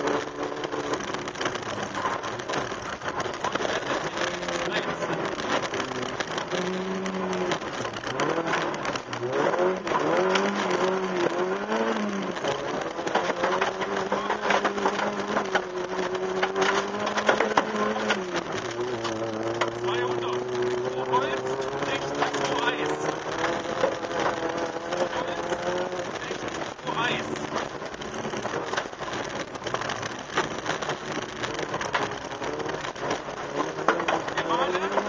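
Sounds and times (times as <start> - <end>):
rally car engine revving: 0.0 - 35.0
road and tyre noise: 0.0 - 35.0.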